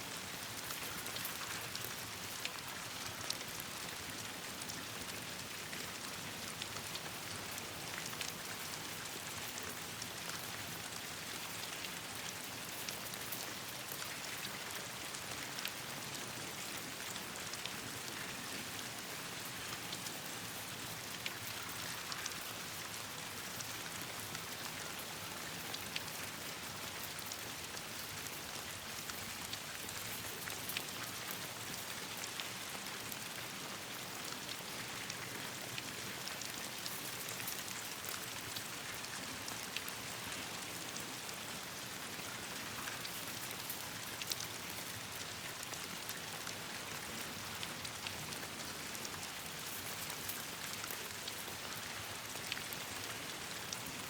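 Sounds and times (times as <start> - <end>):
rain falling: 0.1 - 54.0.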